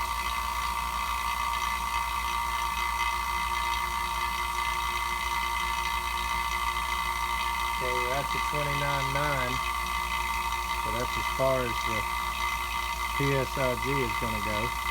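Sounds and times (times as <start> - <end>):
vacuum pump motor humming: 0.0 - 14.9.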